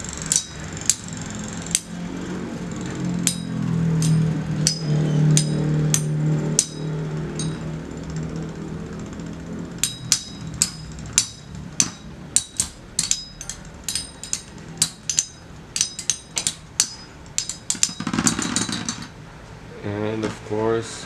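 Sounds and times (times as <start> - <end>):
spinning tops clinking: 0.0 - 19.2
spinning tops rattling scrape: 0.0 - 19.2.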